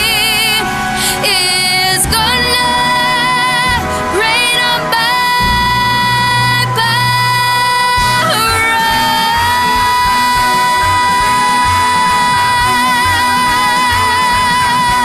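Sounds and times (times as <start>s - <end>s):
backing track: 0.0s - 15.0s
woman singing sustained notes: 0.0s - 15.0s.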